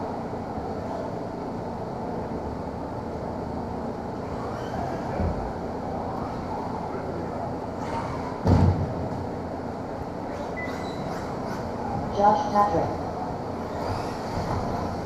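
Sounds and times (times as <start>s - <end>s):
indoor hall rumble: 0.0s - 15.0s.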